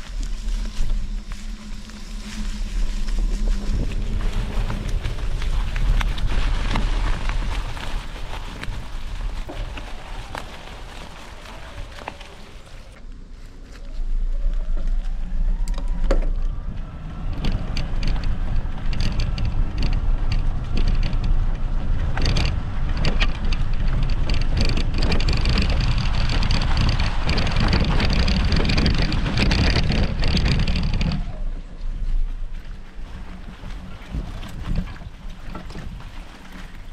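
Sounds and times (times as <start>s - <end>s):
wind buffeting microphone: 0.0s - 13.0s, 13.9s - 36.9s
bike clicks and rattles: 0.0s - 36.9s
tyres rumbling on ground: 0.0s - 36.9s.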